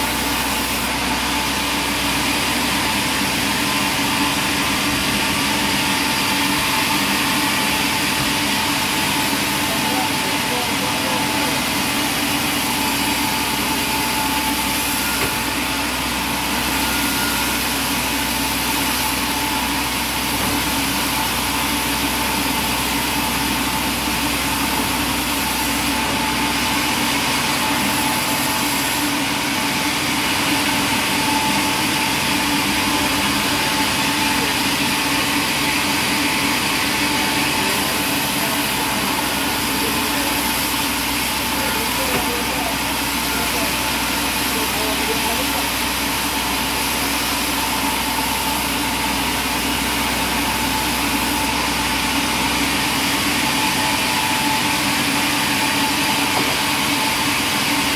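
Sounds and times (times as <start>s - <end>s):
band saw running: 0.0s - 57.9s.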